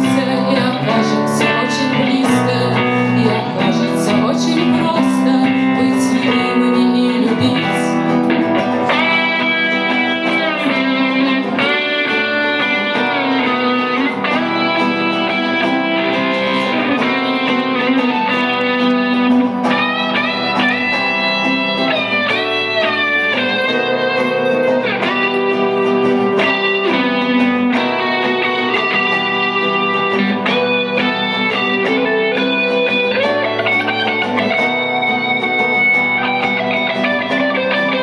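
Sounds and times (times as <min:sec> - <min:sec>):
lead guitar bending notes: 0:00.0 - 0:38.0
rock band accompaniment: 0:00.0 - 0:38.0.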